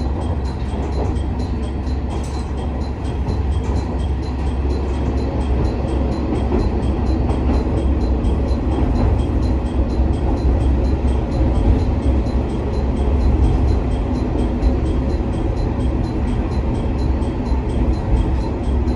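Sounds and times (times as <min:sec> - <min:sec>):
train wheels on track: 0:00.0 - 0:18.9.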